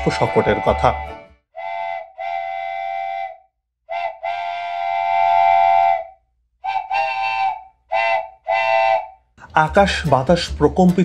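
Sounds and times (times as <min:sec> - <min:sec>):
steam locomotive whistle blasts: 0:00.0 - 0:09.3.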